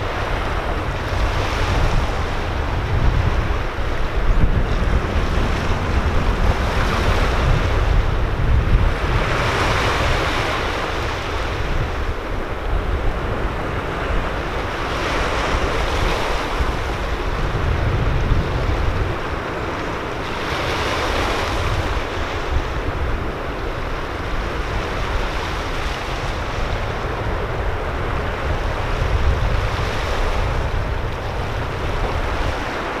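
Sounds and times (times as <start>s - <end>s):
waves breaking on rocks: 0.0s - 33.0s
wind on microphone: 0.0s - 33.0s.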